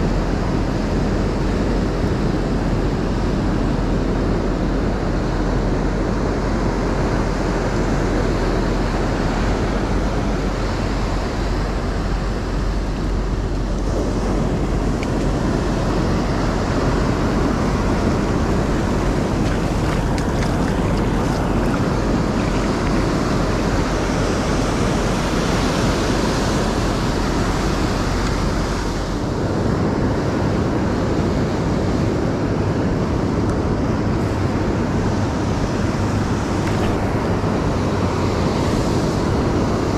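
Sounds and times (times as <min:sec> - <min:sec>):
waves washing on sandy beach: 0:00.0 - 0:39.9
wind rumbling on microphone: 0:00.0 - 0:39.9.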